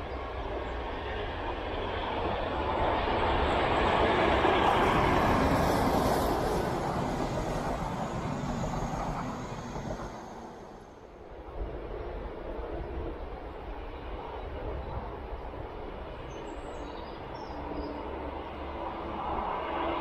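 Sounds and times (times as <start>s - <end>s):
diesel locomotive engine: 0.0s - 20.0s
train coaches rolling by: 0.0s - 20.0s.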